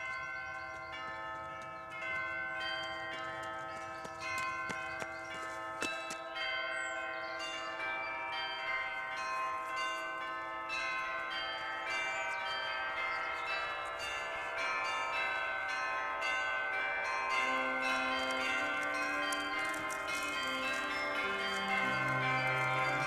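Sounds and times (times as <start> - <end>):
bells ringing: 0.0 - 23.0.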